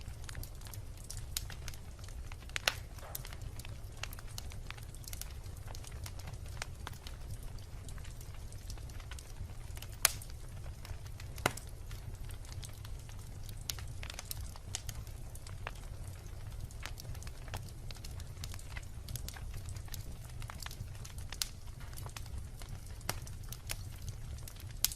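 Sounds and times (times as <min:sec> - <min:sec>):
bonfire flames rumbling: 0:00.0 - 0:24.9
fire crackling and popping: 0:00.0 - 0:24.9.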